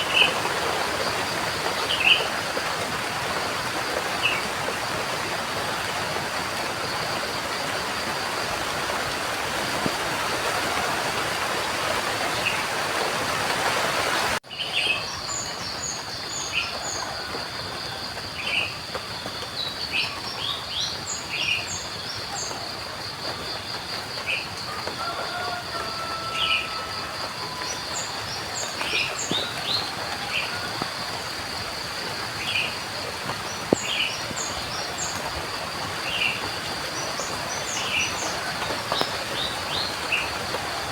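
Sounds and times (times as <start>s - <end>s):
heavy rain hiss: 0.0s - 40.9s
light rain: 0.0s - 40.9s.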